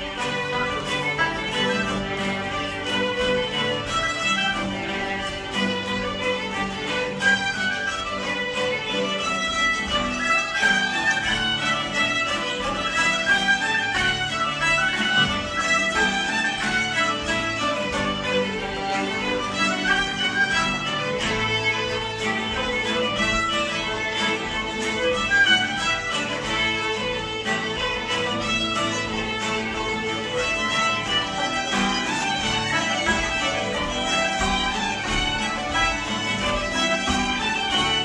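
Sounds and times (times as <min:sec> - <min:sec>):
acoustic guitars: 0:00.0 - 0:38.0
banjo: 0:00.0 - 0:38.0
fiddles bowing melody: 0:00.0 - 0:38.0.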